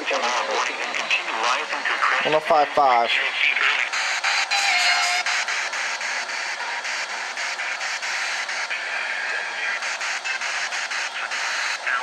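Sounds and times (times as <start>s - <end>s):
radio static hiss and crackles: 0.0s - 12.0s.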